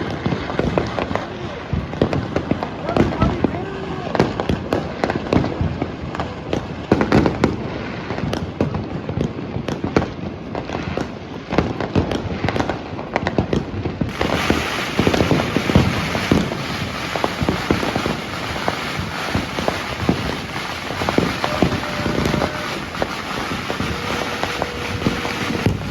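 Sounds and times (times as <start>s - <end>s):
fireworks and firecrackers banging: 0.0s - 25.9s.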